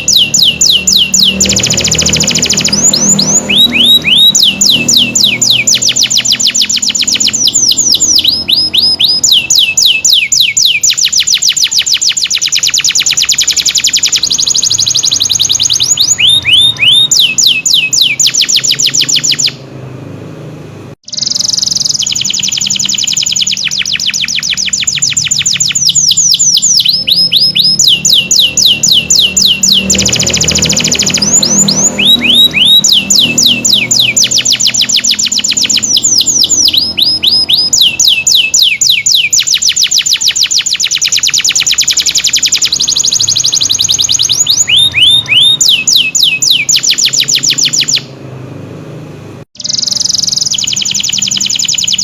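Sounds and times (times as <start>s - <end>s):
canary singing: 0.0s - 19.8s, 21.0s - 48.3s, 49.6s - 52.0s.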